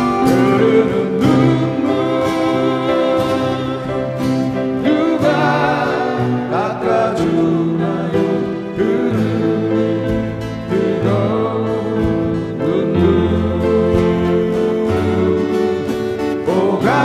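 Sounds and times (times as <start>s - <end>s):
acoustic guitars strumming: 0.0s - 17.0s
electric keyboard: 0.0s - 17.0s.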